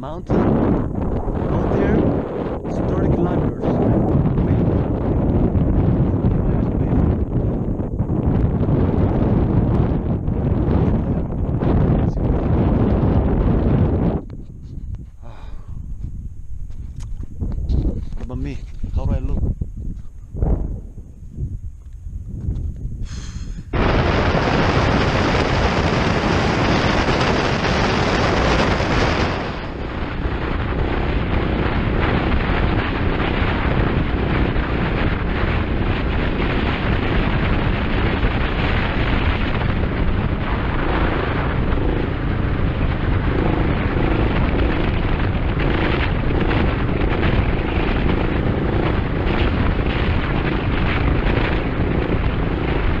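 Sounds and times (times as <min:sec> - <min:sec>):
motorcycle engine drone: 0:00.0 - 0:53.0
wind rush on microphone: 0:00.0 - 0:53.0.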